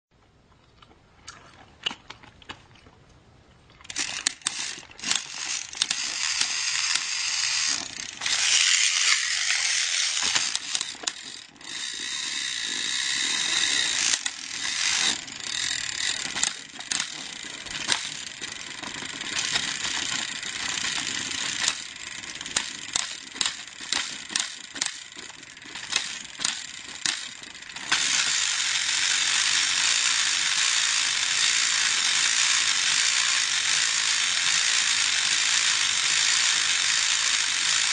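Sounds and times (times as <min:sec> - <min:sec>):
rapid ratcheting gear clicks: 0:03.9 - 0:37.9
toy trains clattering: 0:03.9 - 0:37.9.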